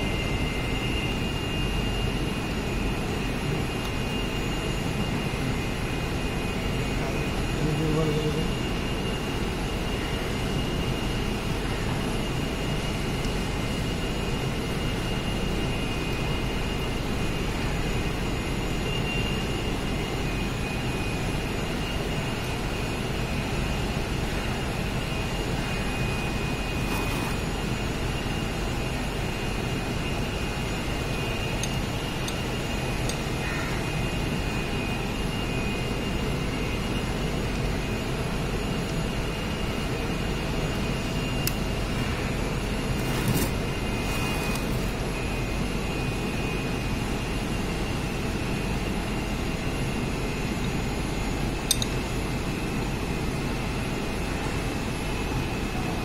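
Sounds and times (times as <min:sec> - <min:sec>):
machine noise with high whine: 0:00.0 - 0:56.0.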